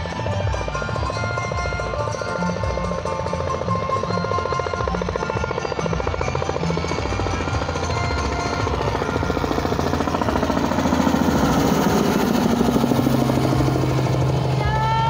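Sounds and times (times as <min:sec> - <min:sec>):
helicopter passing: 0:00.0 - 0:15.0.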